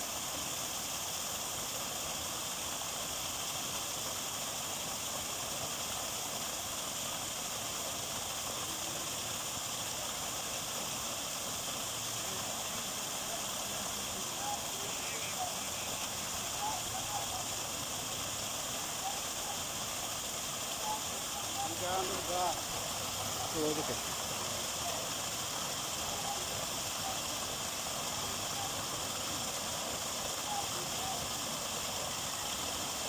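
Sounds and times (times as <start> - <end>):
small waterfall rushing: 0.0 - 33.0.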